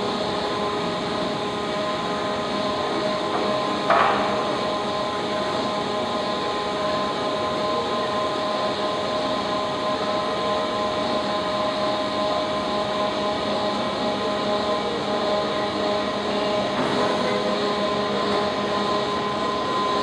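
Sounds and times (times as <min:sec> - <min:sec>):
hydraulic machine hum: 0:00.0 - 0:20.0.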